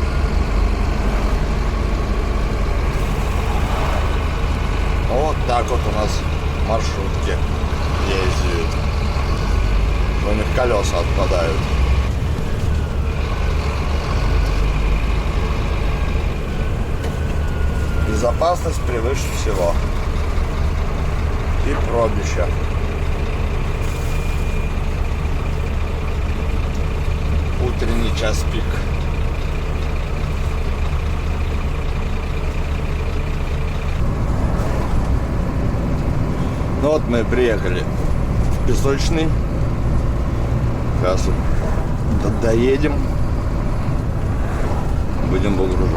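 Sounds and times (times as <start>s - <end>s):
truck diesel engine rumble: 0.0s - 45.9s.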